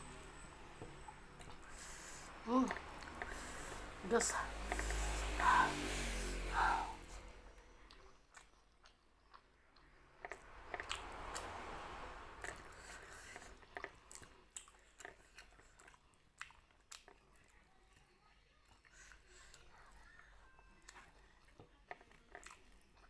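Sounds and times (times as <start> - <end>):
chewing food: 0.0 - 23.0.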